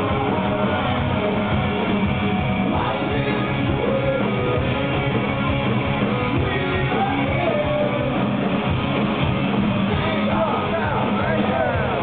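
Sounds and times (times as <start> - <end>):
bass: 0.0 - 12.0
distorted electric guitars: 0.0 - 12.0
drums: 0.0 - 12.0.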